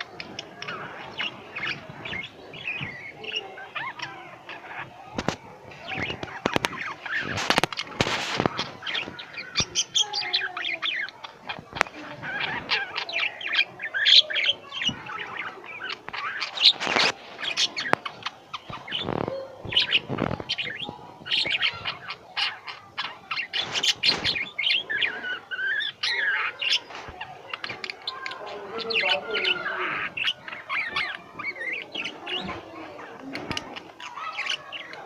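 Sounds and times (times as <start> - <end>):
lovebirds chirping: 0.0 - 35.0.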